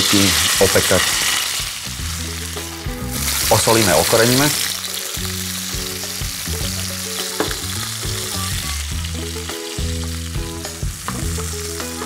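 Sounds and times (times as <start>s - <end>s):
background music: 0.0s - 12.0s
meat sizzling in a pan: 0.0s - 12.0s.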